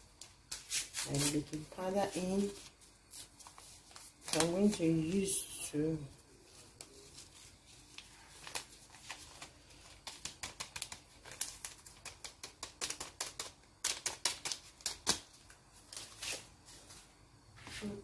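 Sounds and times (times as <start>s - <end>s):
paper sachets crinkling and tearing: 1.0s - 5.7s, 6.3s - 16.4s.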